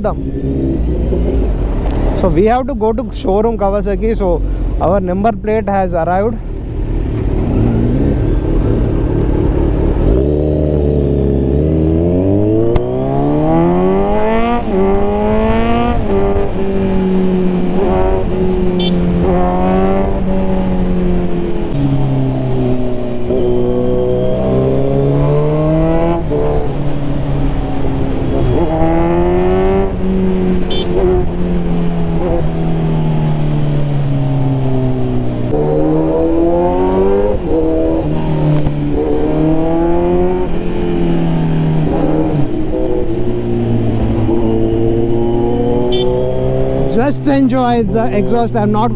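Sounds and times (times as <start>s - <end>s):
motorcycle engine accelerating: 0.0s - 2.8s, 6.4s - 48.9s.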